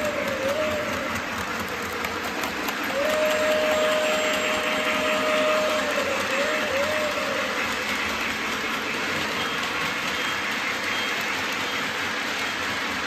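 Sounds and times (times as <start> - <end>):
model locomotive whistle: 0.0 - 13.0
model trains running on track: 0.0 - 13.0.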